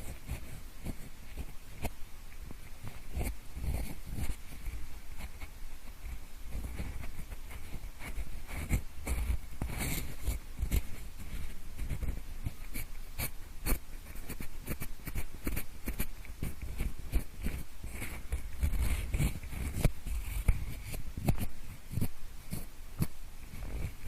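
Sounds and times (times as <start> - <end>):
pencil scratching and tapping: 0.0 - 24.0.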